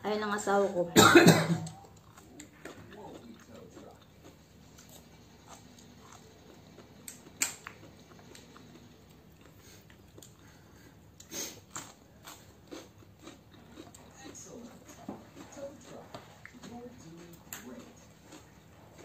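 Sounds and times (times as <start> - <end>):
chewing: 1.6 - 19.0.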